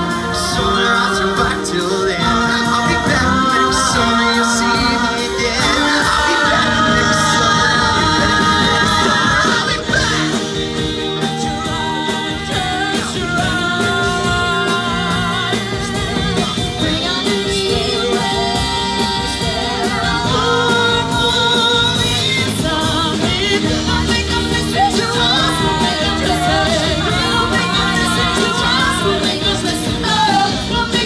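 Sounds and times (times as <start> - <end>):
drums with a steady beat: 0.0 - 31.0
electric guitars: 0.0 - 31.0
voices singing into microphones: 0.0 - 31.0.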